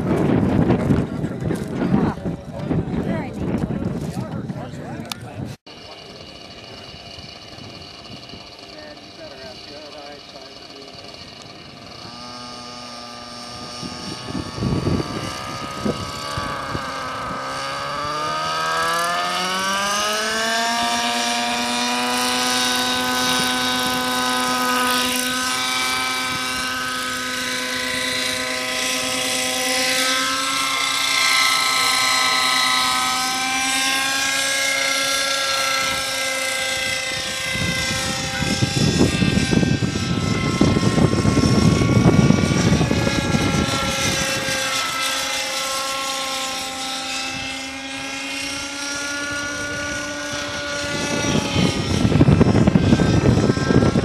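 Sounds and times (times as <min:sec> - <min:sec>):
model helicopter whine: 0:00.0 - 0:54.0.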